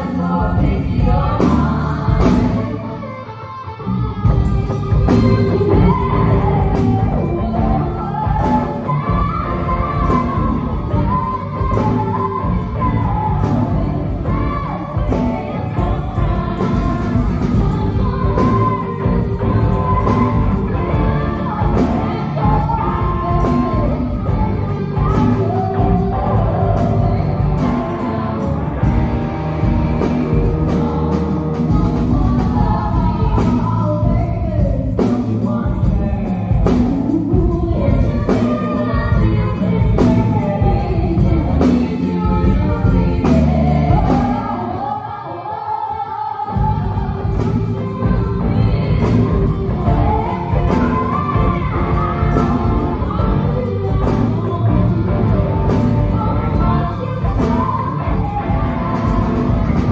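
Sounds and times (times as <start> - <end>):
several voices singing: 0.0 - 3.3, 4.4 - 59.9
live rock band playing: 0.0 - 45.0, 46.4 - 59.9.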